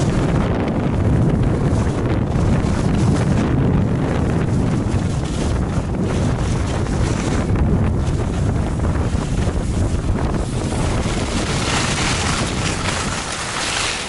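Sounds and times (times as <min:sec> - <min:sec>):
wind buffeting microphone: 0:00.0 - 0:14.0
skis sliding on snow: 0:01.7 - 0:03.6, 0:04.4 - 0:14.0.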